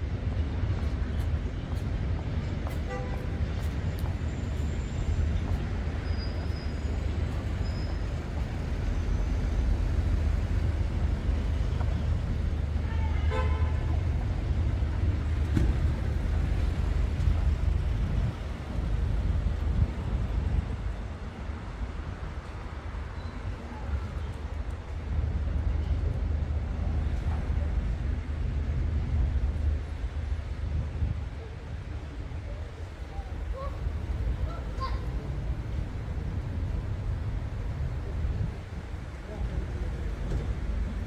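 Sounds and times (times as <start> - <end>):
traffic engines rumbling: 0.0 - 41.0.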